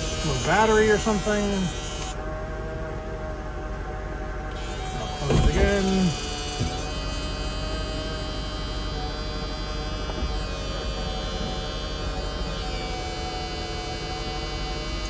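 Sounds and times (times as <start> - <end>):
hydraulic pump whining hum: 0.0 - 15.0.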